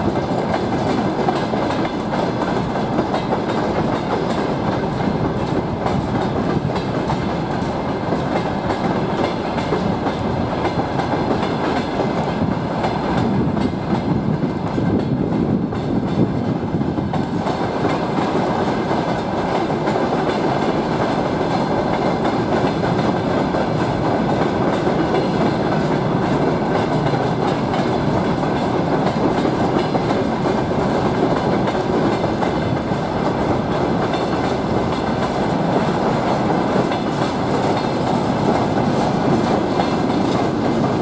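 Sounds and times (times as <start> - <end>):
steel wheels on rails: 0.0 - 41.0.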